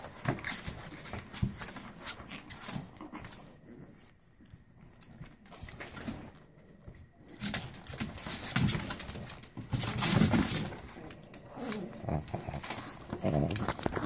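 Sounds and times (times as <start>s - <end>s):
puppy growls and snuffles: 0.0s - 7.4s, 10.0s - 14.0s.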